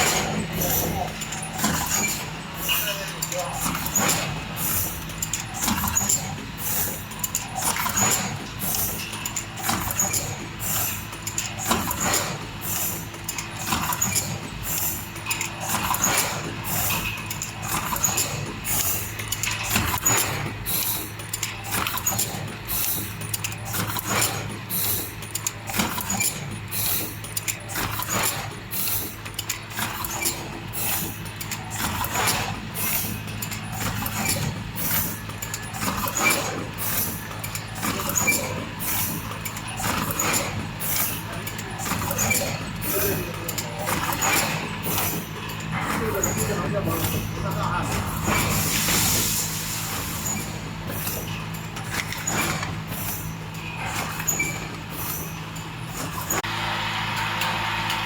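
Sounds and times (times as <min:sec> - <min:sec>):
machine clicks and hisses: 0:00.0 - 0:58.0
machine motor hum: 0:00.0 - 0:58.0.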